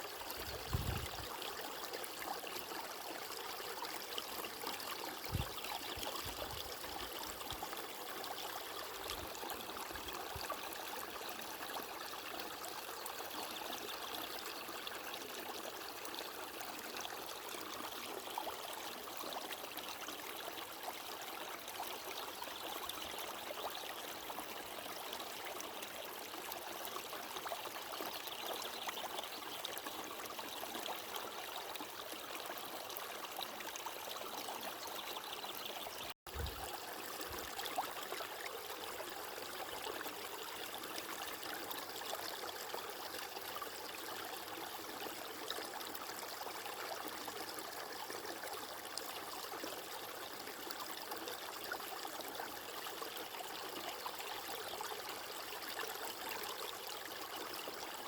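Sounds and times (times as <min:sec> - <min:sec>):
flowing stream: 0:00.0 - 0:58.0.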